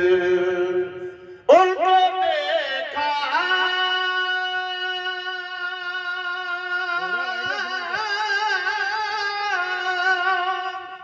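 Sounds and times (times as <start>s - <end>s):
men singing through a pa system: 0.0s - 11.0s.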